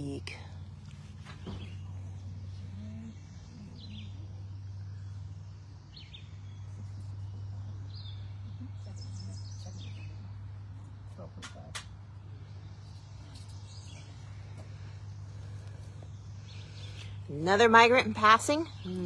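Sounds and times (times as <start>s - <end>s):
birds chirping: 0.0s - 19.0s
steady low hum: 0.0s - 19.0s.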